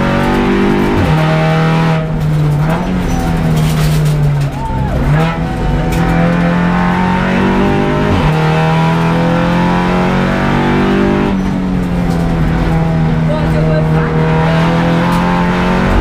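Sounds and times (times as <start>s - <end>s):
race car engine running hard: 0.0s - 16.0s.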